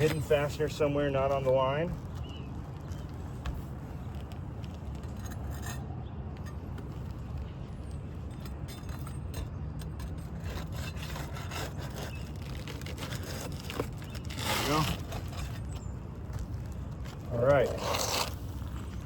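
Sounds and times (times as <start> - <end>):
tools scraping roof shingles: 0.0 - 2.3, 2.9 - 19.0.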